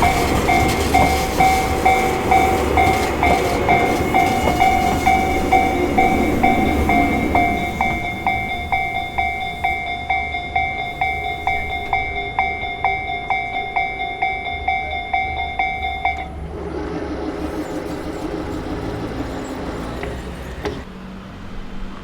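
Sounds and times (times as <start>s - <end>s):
level-crossing bell ringing: 0.0s - 20.8s
train rumble: 0.0s - 22.0s.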